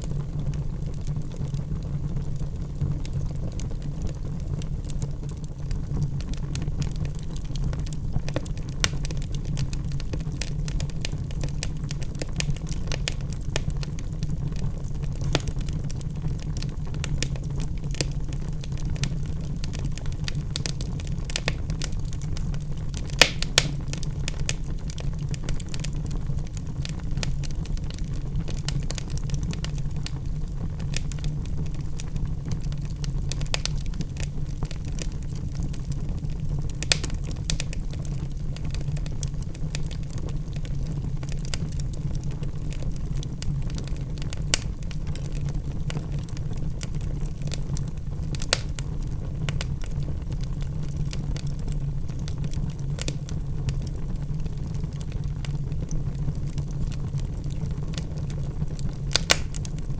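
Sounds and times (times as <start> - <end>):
logs crackling and popping: 0.0 - 59.9
wood fire rumbling: 0.0 - 59.9.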